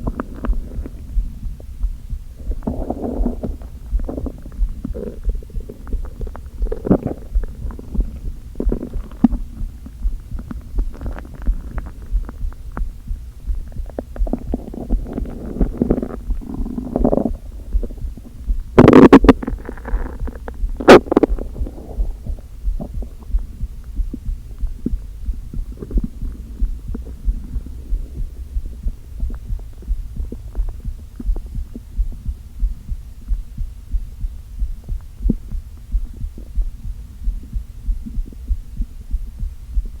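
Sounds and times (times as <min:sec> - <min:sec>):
low rhythmic thumping: 0:00.0 - 0:40.0
stomach rumbling and gurgling: 0:00.0 - 0:40.0.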